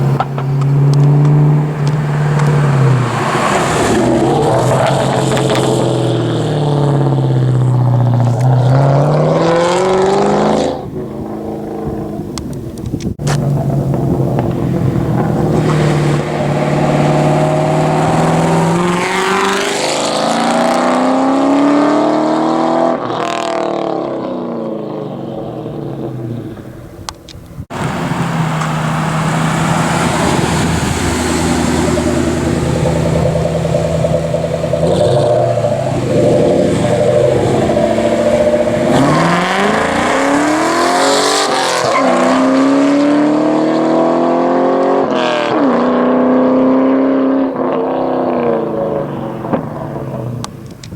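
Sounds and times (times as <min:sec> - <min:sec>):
car exhaust passing by: 0:00.0 - 0:27.1, 0:27.7 - 0:50.9.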